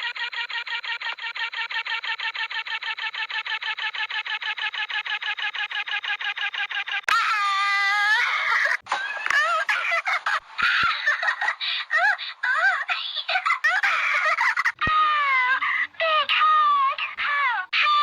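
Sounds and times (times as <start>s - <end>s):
toy voice giggling and squealing: 0.0s - 18.0s.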